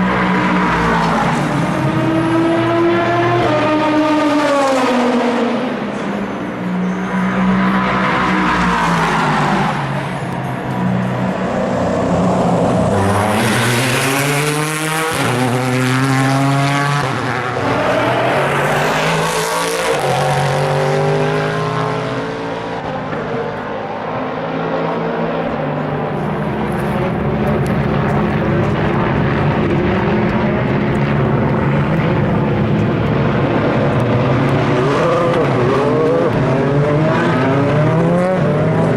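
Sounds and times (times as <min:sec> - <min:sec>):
racing cars passing: 0:00.0 - 0:38.9.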